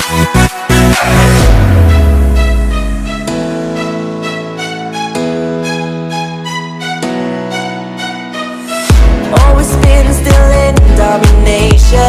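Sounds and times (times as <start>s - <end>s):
sustained synth chords: 0.2s - 10.2s.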